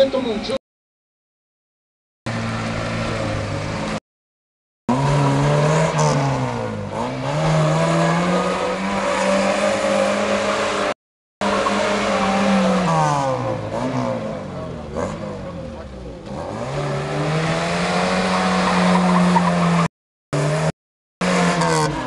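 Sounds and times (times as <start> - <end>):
car engine revving: 2.3 - 4.0, 4.9 - 22.0.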